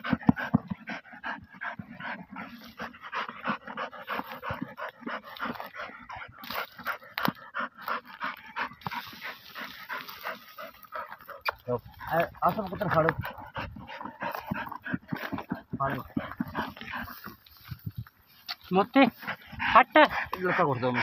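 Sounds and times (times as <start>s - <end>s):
dog panting: 0.0s - 21.0s
dog paws scraping soil: 0.0s - 21.0s.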